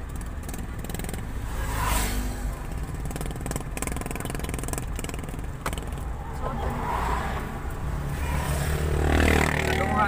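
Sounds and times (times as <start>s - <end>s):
car engine and tyre rumble: 0.0s - 10.0s
motorcycle passing by: 0.0s - 10.0s.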